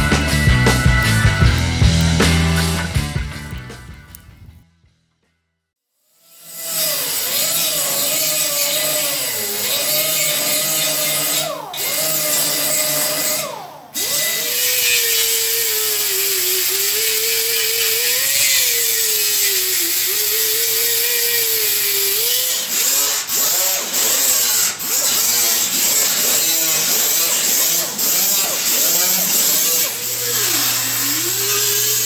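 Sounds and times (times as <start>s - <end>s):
handheld grinder whining: 0.0s - 4.2s, 6.2s - 32.0s.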